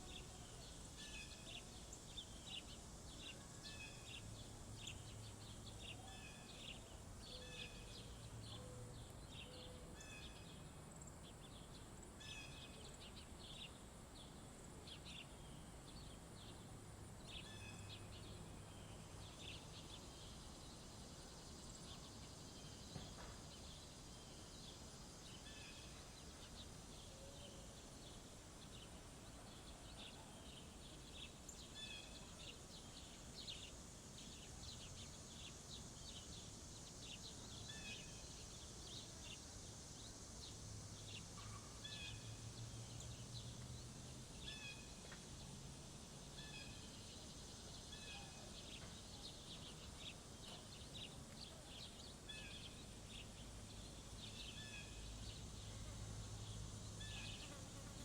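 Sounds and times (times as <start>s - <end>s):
small songbirds chirping: 0.0s - 58.0s
steady outdoor hiss: 0.0s - 58.0s.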